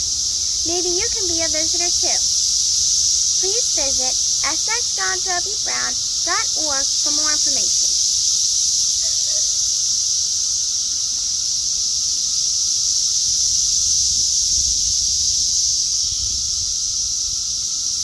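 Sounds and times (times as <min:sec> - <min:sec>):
cicadas droning: 0:00.0 - 0:18.0.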